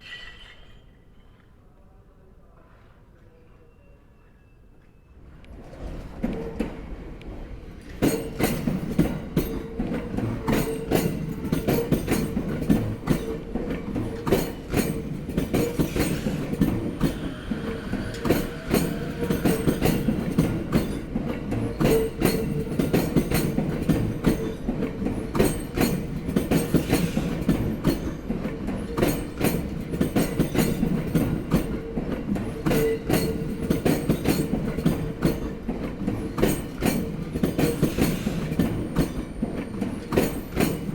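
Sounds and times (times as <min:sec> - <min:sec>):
train rumble: 0:05.1 - 0:40.9
train wheels clunking over rail joints: 0:05.3 - 0:40.9.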